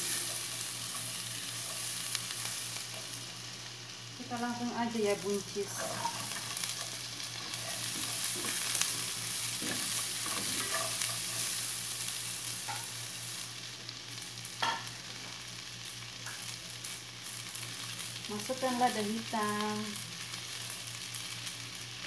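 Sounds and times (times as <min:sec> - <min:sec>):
beans sizzling in hot oil: 0:00.0 - 0:22.0.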